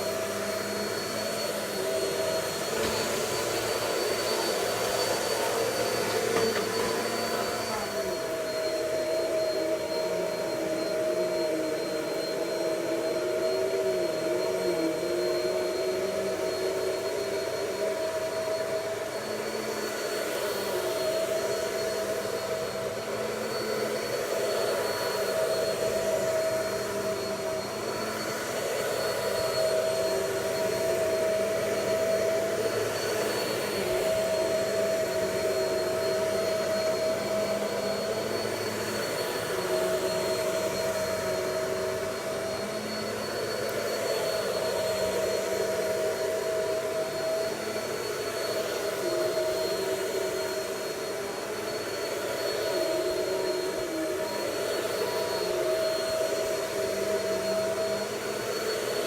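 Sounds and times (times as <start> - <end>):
vacuum cleaner running on carpet: 0.0 - 59.0.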